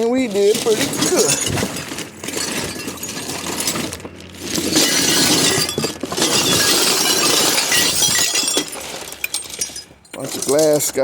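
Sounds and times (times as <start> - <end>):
glassware clinking and rattling: 0.3 - 10.8.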